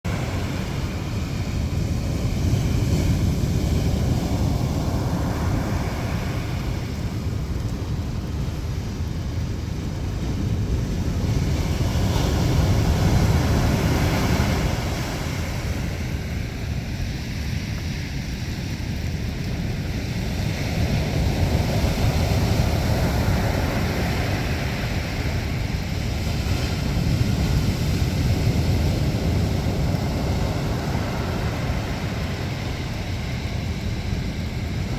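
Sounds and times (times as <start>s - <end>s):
wind buffeting microphone: 0.0s - 34.9s
sea surf breaking: 0.1s - 7.5s, 10.2s - 16.6s, 20.1s - 34.9s.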